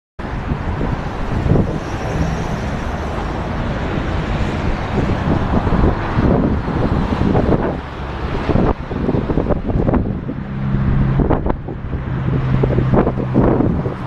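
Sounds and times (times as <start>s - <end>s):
road traffic: 0.2s - 14.0s
wind buffeting microphone: 0.2s - 14.0s.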